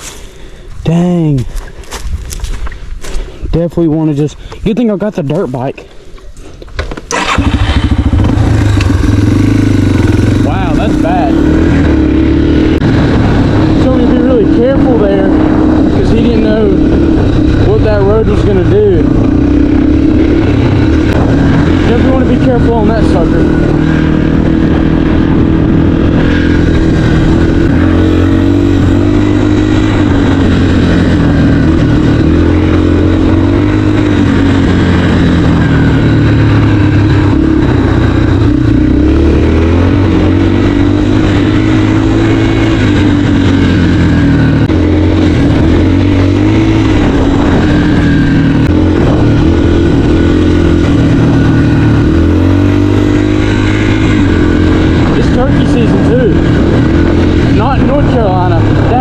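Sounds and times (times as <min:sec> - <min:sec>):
dirt bike engine revving: 0:07.1 - 0:59.0.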